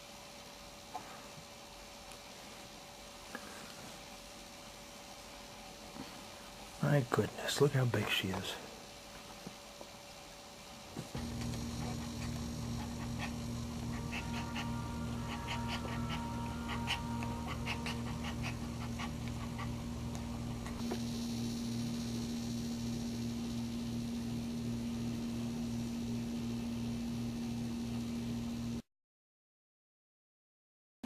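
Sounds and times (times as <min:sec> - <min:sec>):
steady electrical hum: 0:00.0 - 0:28.8.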